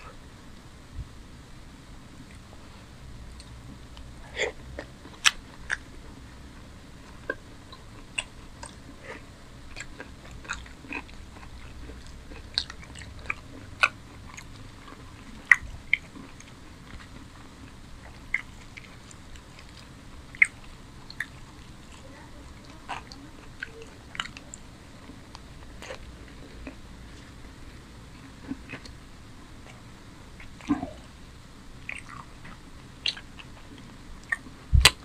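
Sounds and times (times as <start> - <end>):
person chewing food: 2.2 - 35.0.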